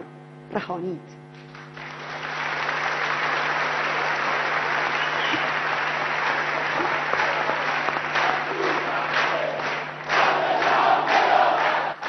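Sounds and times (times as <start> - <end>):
audience applauding: 1.4 - 12.0.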